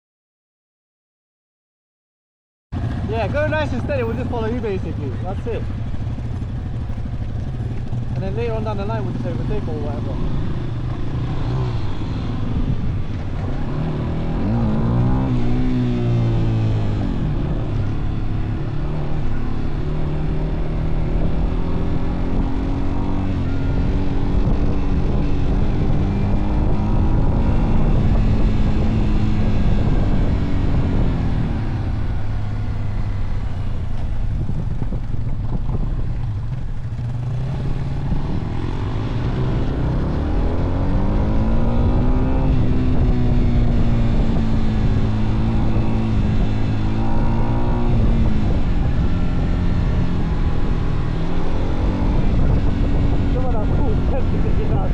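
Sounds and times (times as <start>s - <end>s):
motorcycle engine running: 2.8s - 54.9s.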